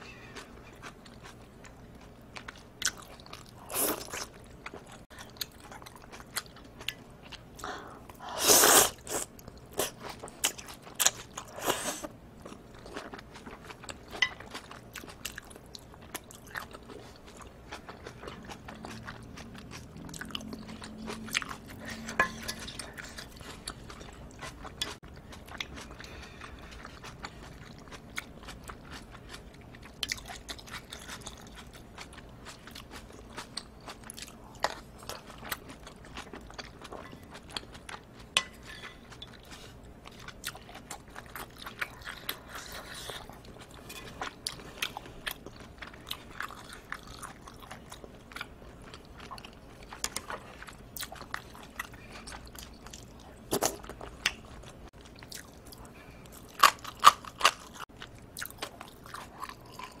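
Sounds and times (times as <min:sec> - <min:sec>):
person chewing seafood: 0:00.2 - 1:00.0.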